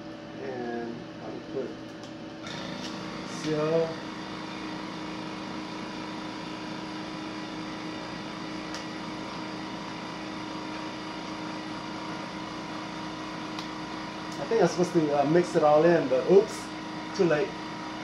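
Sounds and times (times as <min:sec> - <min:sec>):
vacuum sealer pump humming: 0:00.0 - 0:18.0.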